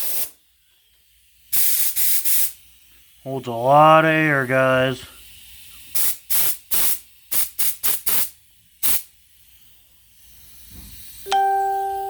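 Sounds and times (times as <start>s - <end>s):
compressed air hissing blasts: 0.0s - 11.3s.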